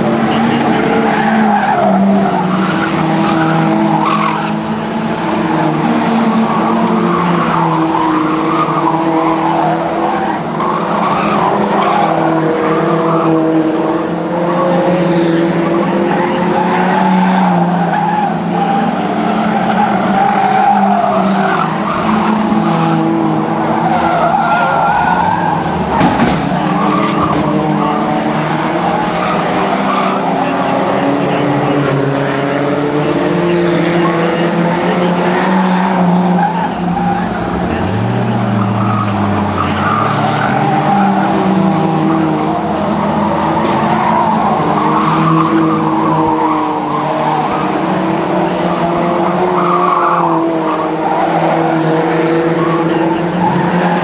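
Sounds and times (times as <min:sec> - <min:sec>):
racing car engines revving: 0:00.0 - 0:54.0
tyres skidding: 0:00.0 - 0:54.0.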